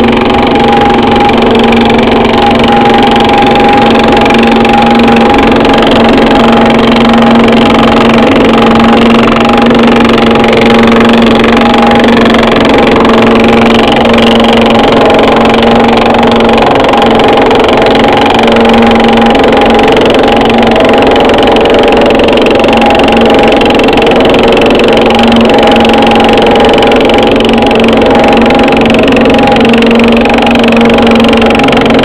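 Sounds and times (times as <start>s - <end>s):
thickness planer running: 0.0s - 32.0s.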